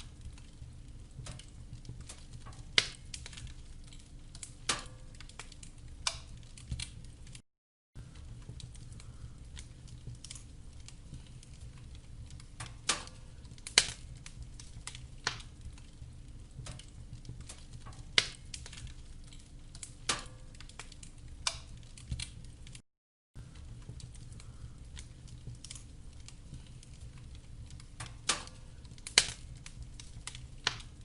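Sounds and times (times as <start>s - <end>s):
fire pops and snaps: 0.0s - 7.4s, 8.0s - 22.8s, 23.4s - 31.0s
low rumble of flames: 0.0s - 7.4s, 8.0s - 22.8s, 23.4s - 31.0s
wood fire crackling: 0.0s - 7.4s, 8.0s - 22.8s, 23.4s - 31.0s.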